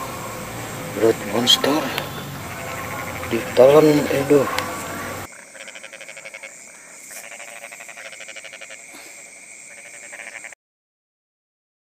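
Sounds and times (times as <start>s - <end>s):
frogs trilling: 0.0s - 10.6s.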